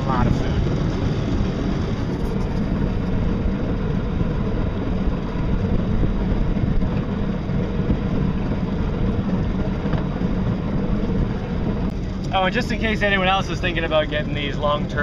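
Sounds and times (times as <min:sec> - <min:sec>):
boat rushing over water: 0:00.0 - 0:15.0.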